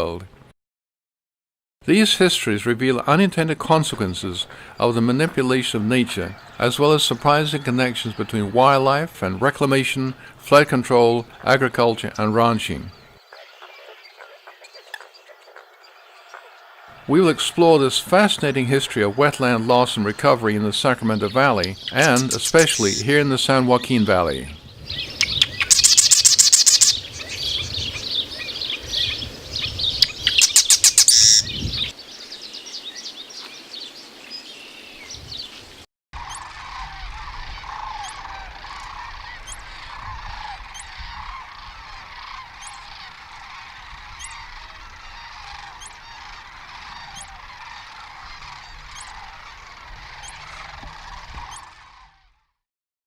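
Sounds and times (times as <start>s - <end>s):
geese honking: 2.0s - 23.6s, 25.0s - 31.5s, 36.2s - 51.9s.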